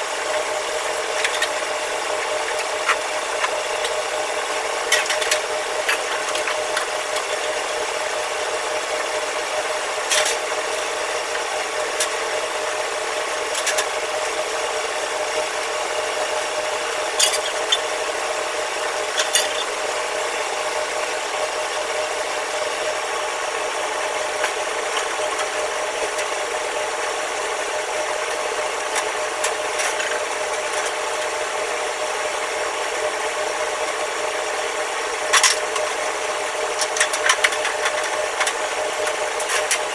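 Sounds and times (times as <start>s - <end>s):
kitchen equipment humming: 0.0s - 39.9s.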